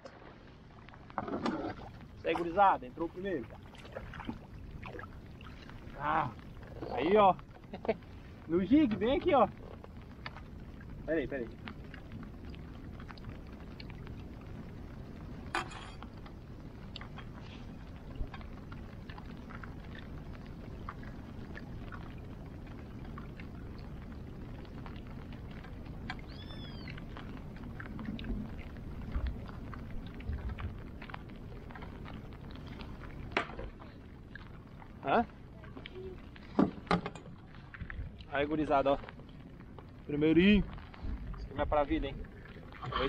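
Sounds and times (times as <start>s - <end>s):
rain falling on water: 0.0s - 43.0s
raindrops ticking on camera: 0.0s - 43.0s.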